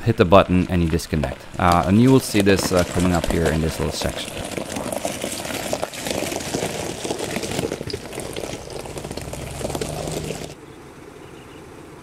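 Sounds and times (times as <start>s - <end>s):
tyres crunching on stones: 0.0s - 10.6s.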